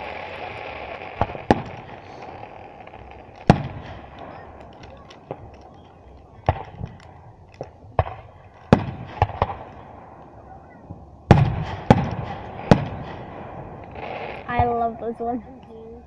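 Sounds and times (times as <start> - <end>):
fireworks bangs with echo: 0.0 - 15.1.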